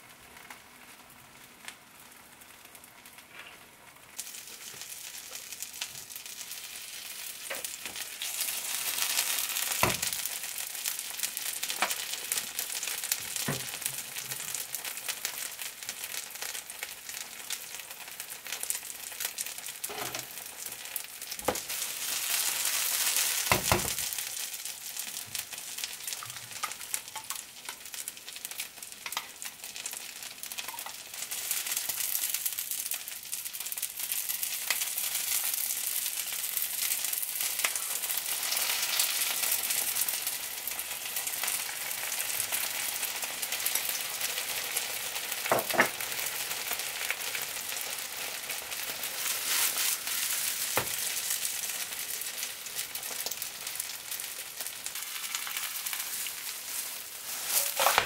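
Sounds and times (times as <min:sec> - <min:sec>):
batter sizzling in oil: 0:00.0 - 0:58.0.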